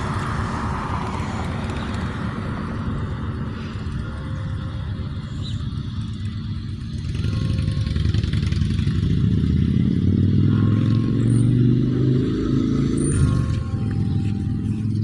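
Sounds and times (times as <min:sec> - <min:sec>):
motor vehicle engine: 0:00.0 - 0:15.0.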